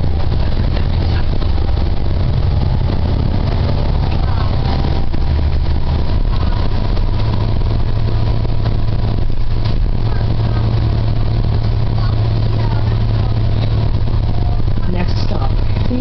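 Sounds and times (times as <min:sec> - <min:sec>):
bus diesel engine droning: 0:00.0 - 0:16.0
road and cabin noise: 0:00.0 - 0:16.0.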